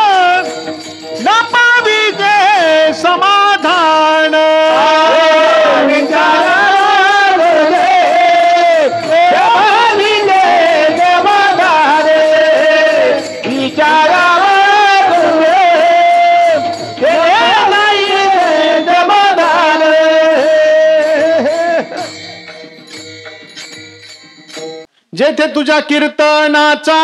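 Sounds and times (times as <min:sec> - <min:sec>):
sharp percussive strikes: 0:00.0 - 0:02.9, 0:04.6 - 0:24.9
instrumental accompaniment: 0:00.0 - 0:25.0.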